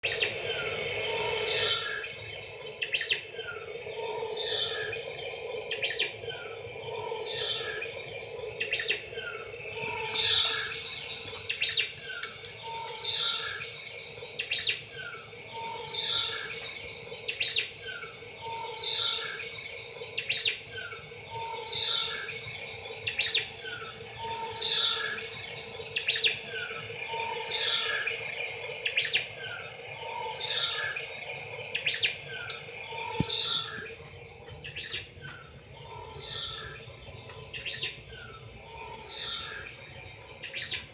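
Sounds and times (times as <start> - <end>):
birds chirping: 0.0 - 40.9
faint hum: 0.0 - 40.9.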